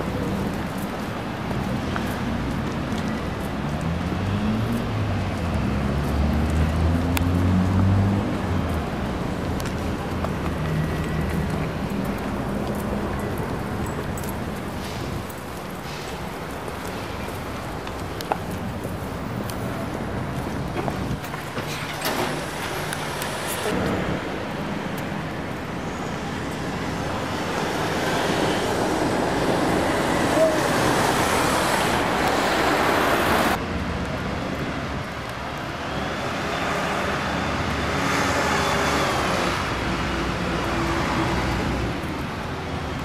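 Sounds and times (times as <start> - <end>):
passing vehicles: 0.0 - 43.0.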